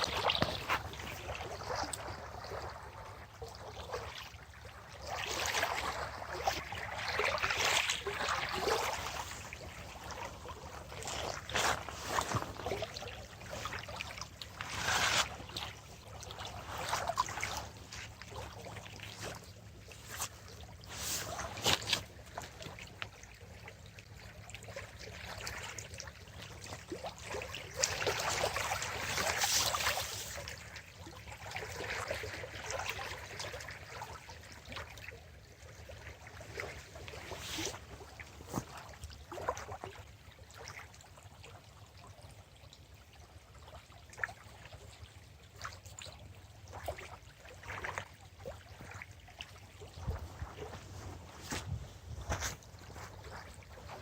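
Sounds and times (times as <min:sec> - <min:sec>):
water lapping and trickling: 0:00.0 - 0:54.0.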